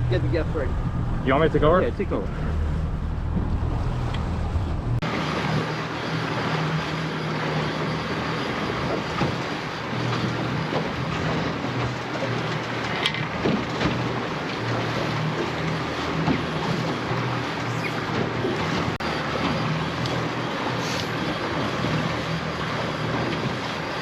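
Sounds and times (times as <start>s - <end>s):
boat engine running: 0.0s - 24.0s
wind and water rushing: 0.0s - 24.0s.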